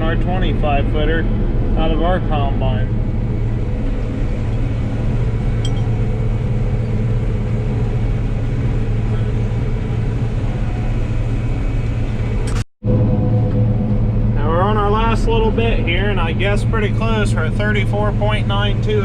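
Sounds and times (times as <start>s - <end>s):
combine harvester humming: 0.0s - 19.0s.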